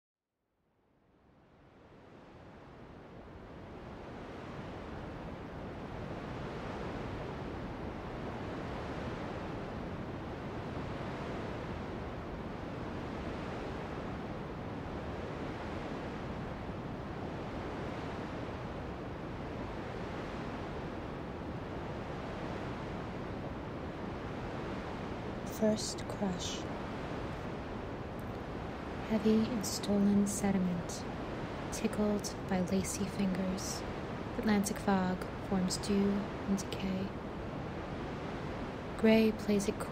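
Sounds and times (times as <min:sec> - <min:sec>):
ocean surf washing in waves: 0:01.4 - 0:39.9.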